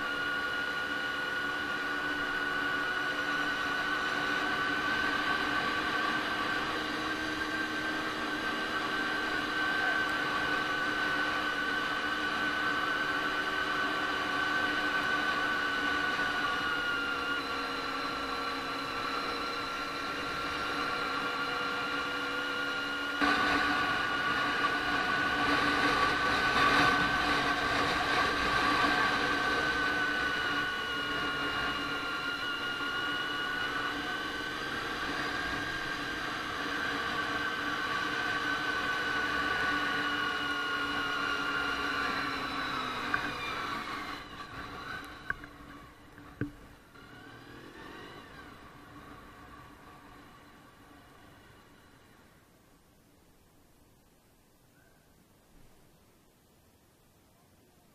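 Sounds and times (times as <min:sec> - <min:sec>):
motorcycle engine running: 0:00.0 - 0:52.5.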